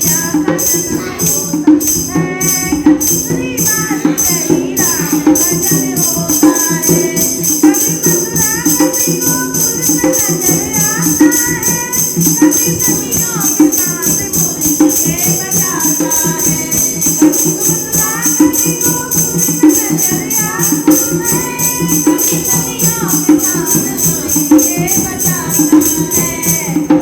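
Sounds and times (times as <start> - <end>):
jingling percussion beat: 0.0 - 27.0
women singing devotional song: 0.0 - 27.0.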